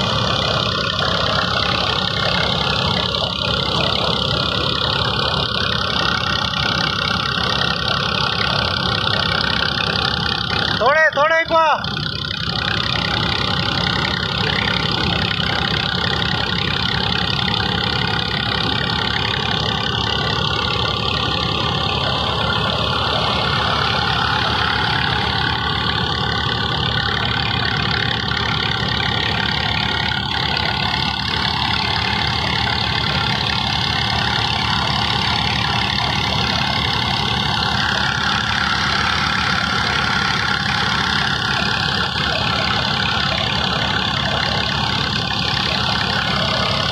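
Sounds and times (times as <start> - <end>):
tractor engine rumbling: 0.0 - 46.9.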